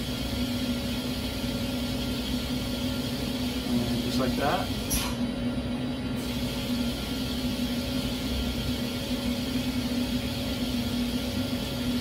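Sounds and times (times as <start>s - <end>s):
shop machinery hum: 0.0s - 12.0s.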